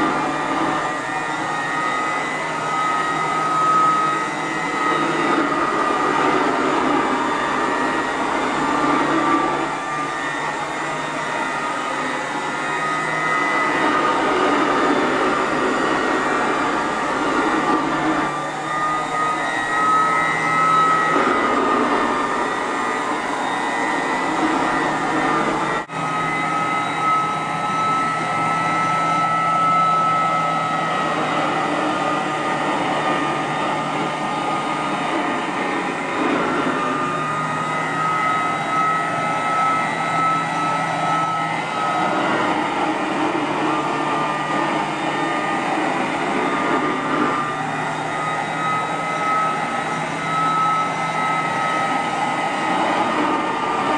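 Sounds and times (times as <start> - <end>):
vacuum cleaner whining: 0.0 - 53.9.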